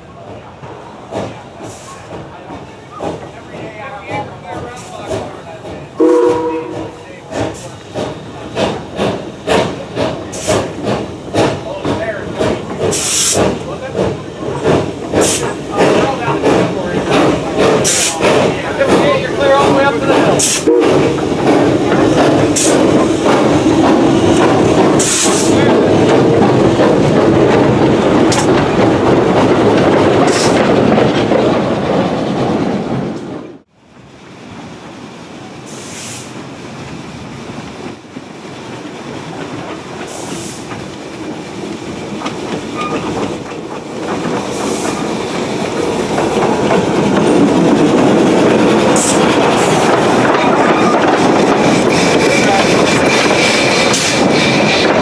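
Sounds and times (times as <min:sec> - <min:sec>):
steam locomotive running: 0:00.0 - 0:55.0.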